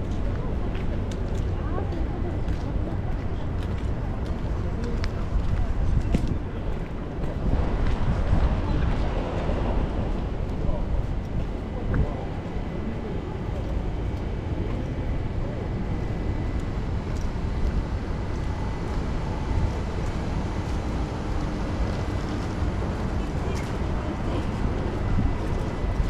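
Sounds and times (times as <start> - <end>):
road traffic rumble: 0.0 - 26.0
strong wind: 0.0 - 26.0.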